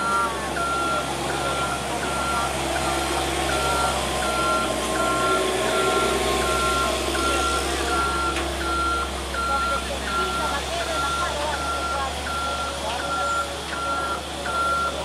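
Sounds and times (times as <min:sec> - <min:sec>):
engine drone: 0:00.0 - 0:15.0
truck reversing alarm beeping: 0:00.0 - 0:15.0.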